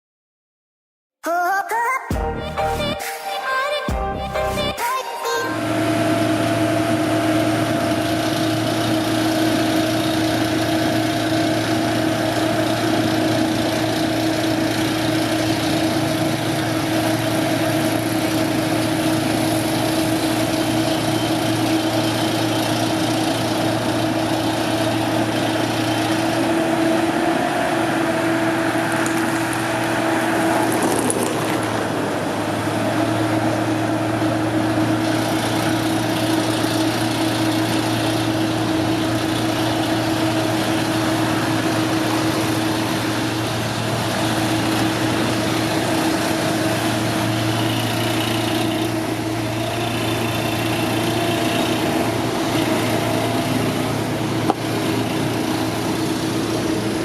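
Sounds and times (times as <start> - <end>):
construction machinery engine droning: 4.0 - 57.0.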